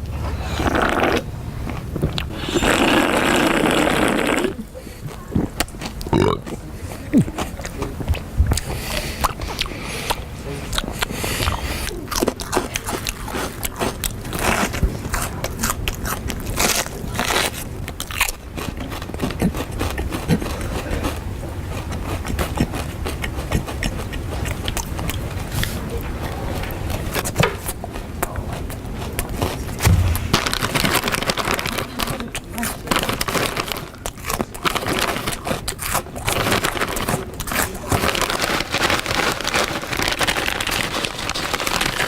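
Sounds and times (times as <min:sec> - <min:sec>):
person chewing and crunching food: 0:00.0 - 0:42.0.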